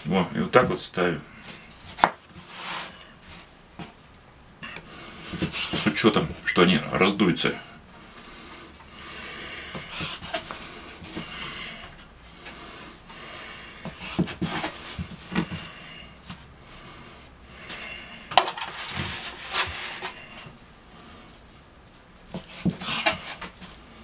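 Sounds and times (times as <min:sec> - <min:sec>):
dough rubbing and scraping: 0:01.3 - 0:04.0, 0:05.0 - 0:06.5, 0:08.0 - 0:21.3, 0:22.3 - 0:24.0.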